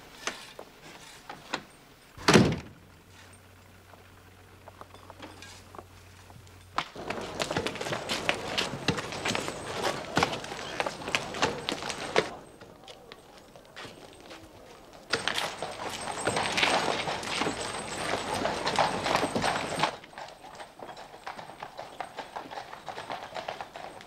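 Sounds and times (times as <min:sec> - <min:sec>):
horse hooves clip-clopping on street: 0:03.4 - 0:24.0.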